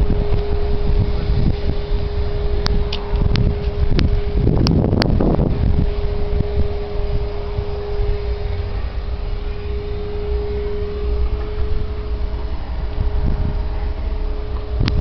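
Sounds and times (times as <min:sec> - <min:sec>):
thin steady tone: 0:00.0 - 0:15.0
wind buffeting microphone: 0:00.0 - 0:15.0.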